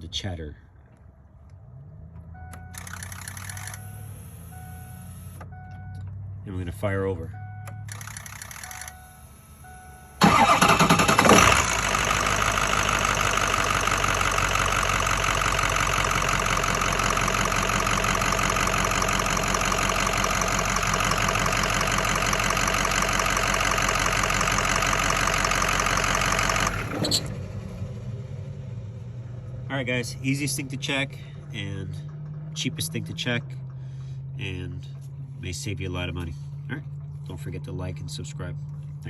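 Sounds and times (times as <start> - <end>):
diesel engine cranking and idling: 0.0 - 39.0.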